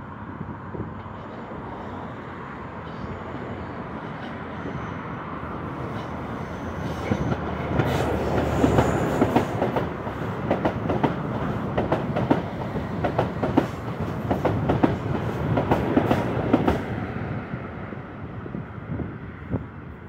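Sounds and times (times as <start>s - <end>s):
diesel train rumble: 0.0s - 20.0s.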